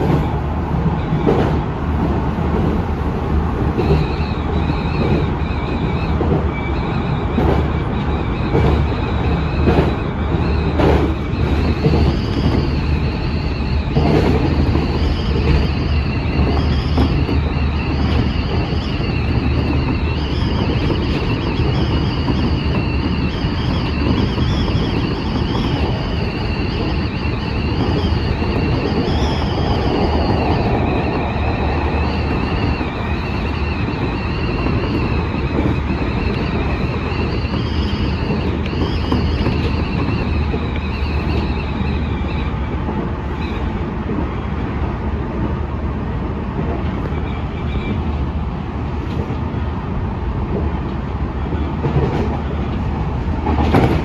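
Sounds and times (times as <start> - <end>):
oncoming train rushing past: 0.0 - 54.0
train wheels rumbling on rail: 0.0 - 54.0.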